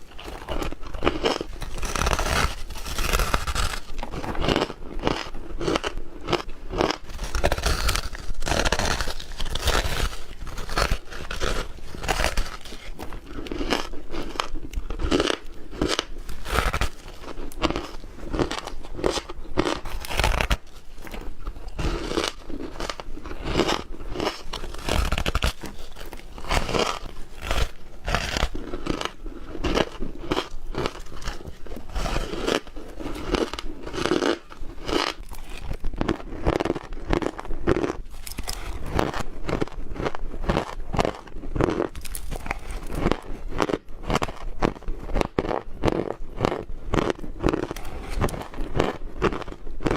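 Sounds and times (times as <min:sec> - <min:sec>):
chewing ice crunching: 0:00.0 - 0:49.9.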